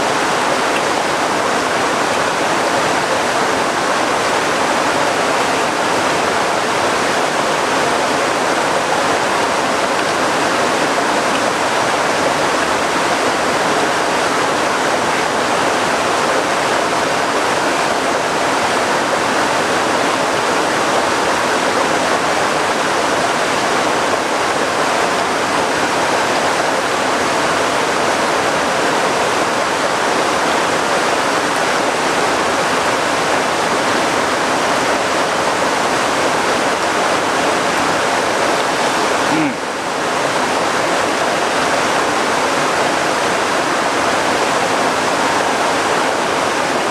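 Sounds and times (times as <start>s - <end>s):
heavy rain: 0.0s - 46.9s
river rushing: 0.0s - 46.9s.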